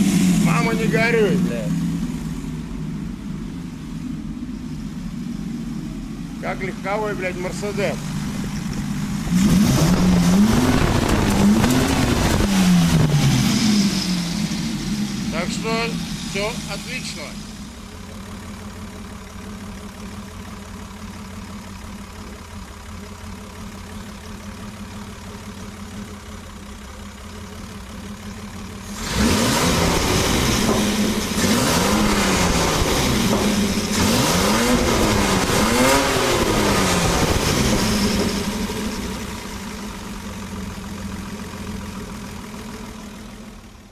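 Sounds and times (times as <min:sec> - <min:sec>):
loud engine idling and revving: 0:00.0 - 0:43.9.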